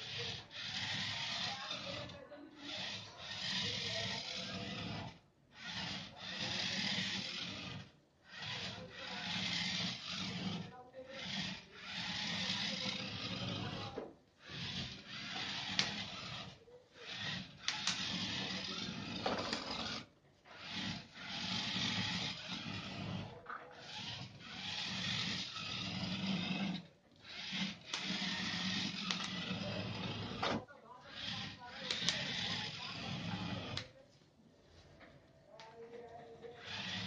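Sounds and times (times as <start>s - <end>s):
small geared motors running: 0.0s - 34.0s, 35.7s - 37.0s.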